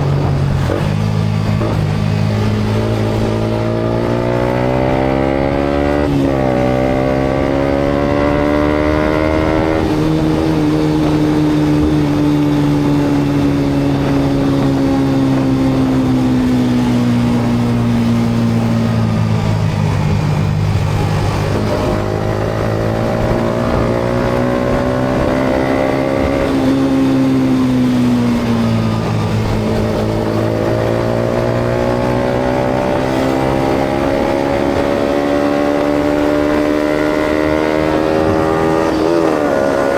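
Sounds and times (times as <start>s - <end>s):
motorcycle engine revving: 0.0s - 39.9s
road noise: 0.0s - 39.9s.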